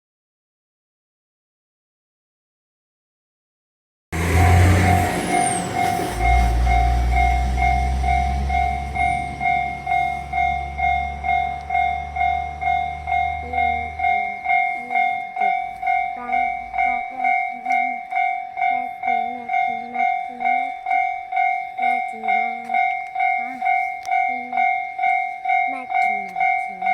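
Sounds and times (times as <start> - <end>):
level crossing alarm ding: 4.2 - 26.9
train rumble: 4.2 - 26.9.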